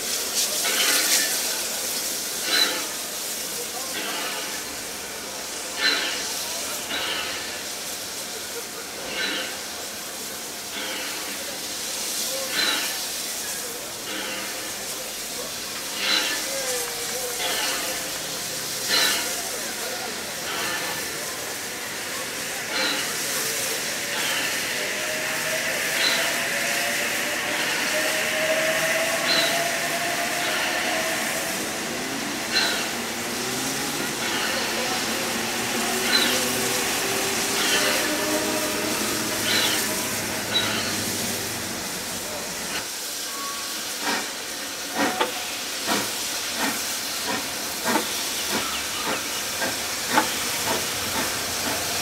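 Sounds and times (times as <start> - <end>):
crowd chatter: 0.0 - 52.0
gush of steam: 0.0 - 52.0
steam hissing from locomotive: 0.0 - 52.0.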